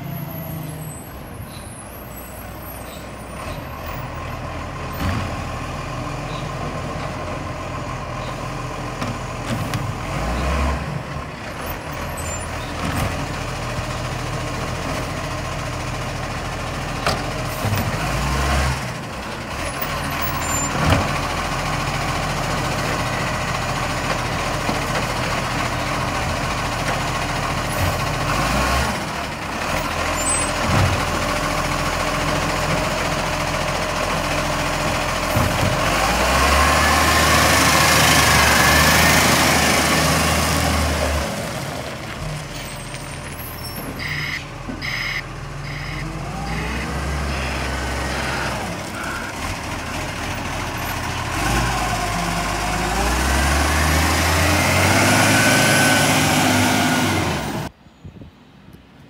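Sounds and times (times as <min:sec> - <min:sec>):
garbage truck running: 0:00.0 - 0:57.7.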